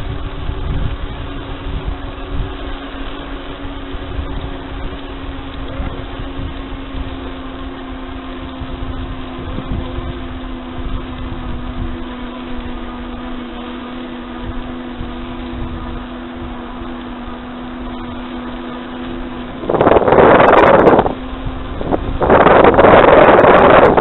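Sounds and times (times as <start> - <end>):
steady hum: 0.0 - 24.0
wind and road rumble: 0.0 - 24.0.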